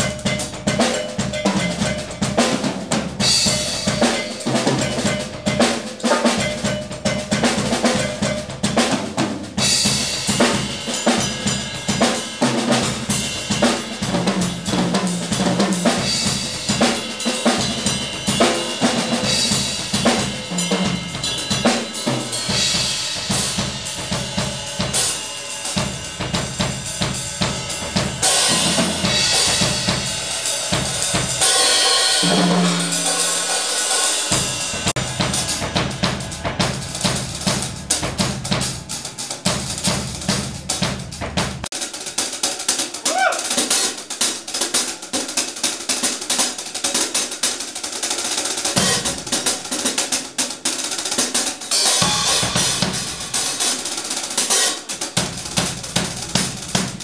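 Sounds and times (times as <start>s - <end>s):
cymbal crashes: 0.0s - 40.9s, 51.6s - 57.0s
snare and bass drum strokes: 0.0s - 57.0s.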